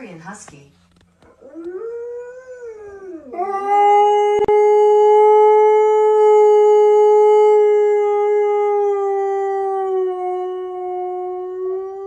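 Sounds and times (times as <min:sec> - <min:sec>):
dog howling: 0:01.3 - 0:12.0.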